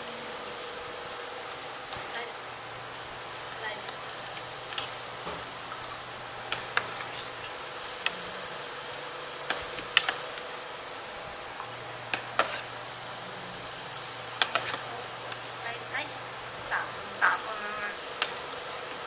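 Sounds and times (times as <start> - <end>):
background hum and hiss: 0.0 - 19.0
high whine: 0.0 - 19.0.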